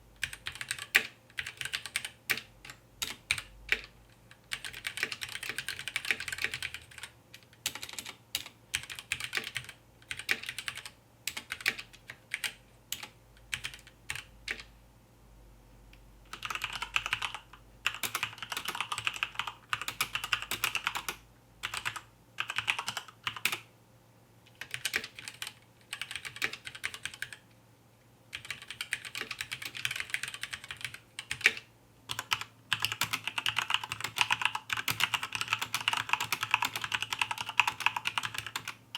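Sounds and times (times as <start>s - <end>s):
mechanical keyboard typing: 0.2s - 14.7s, 16.3s - 23.6s, 24.6s - 27.4s, 28.3s - 38.8s.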